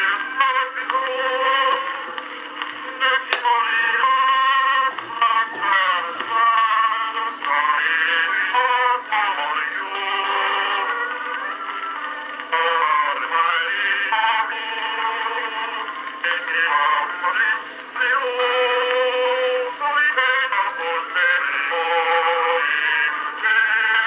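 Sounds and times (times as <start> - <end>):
tinny phonograph singing: 0.0 - 24.0.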